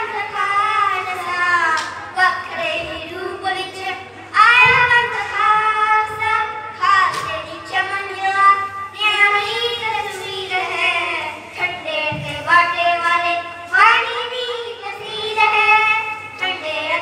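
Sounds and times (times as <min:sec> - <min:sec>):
boys singing into microphones: 0:00.0 - 0:17.0.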